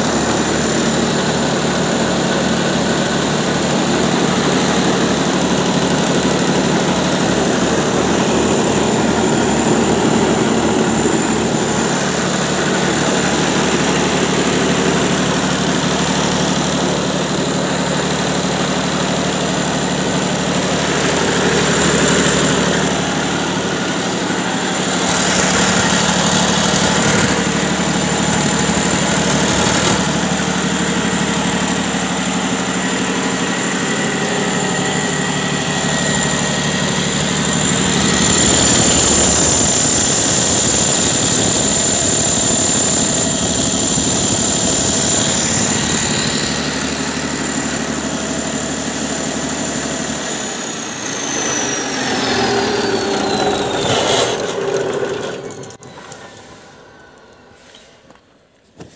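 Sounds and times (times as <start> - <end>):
high whine: 0.0 - 58.8
diesel generator running: 0.0 - 58.9.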